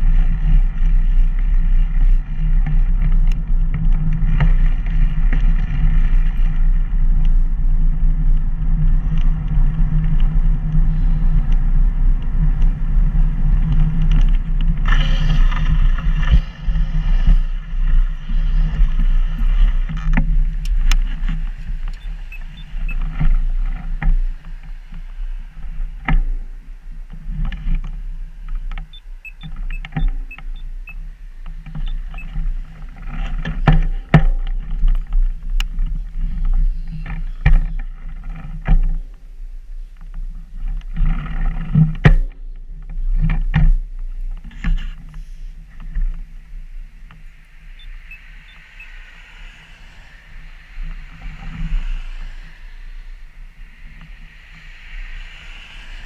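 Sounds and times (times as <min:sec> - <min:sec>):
traffic noise: 0:00.0 - 0:38.5, 0:44.3 - 0:56.0
low wind rumble on microphone: 0:00.0 - 0:56.0.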